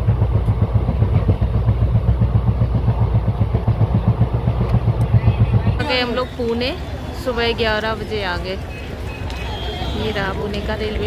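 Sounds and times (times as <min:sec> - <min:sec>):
passenger train rumbling: 0:00.0 - 0:11.0.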